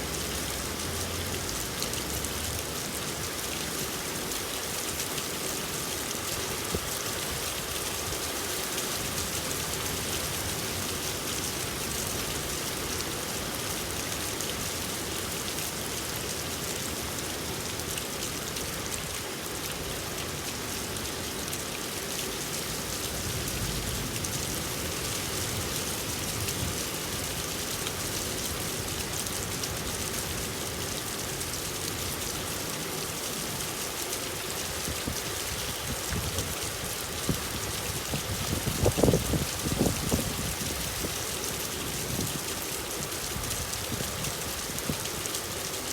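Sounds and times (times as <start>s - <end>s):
rain pattering: 0.0s - 45.9s.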